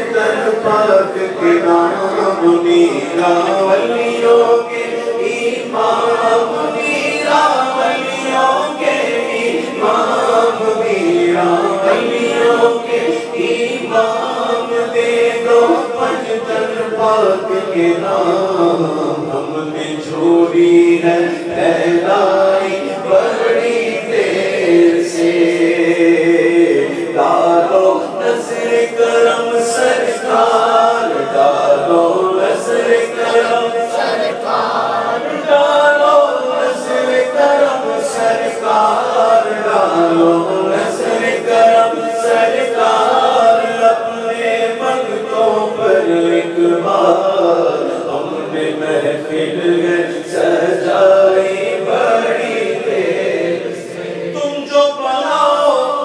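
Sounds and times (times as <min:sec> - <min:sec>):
man singing into a microphone: 0:00.0 - 0:56.0.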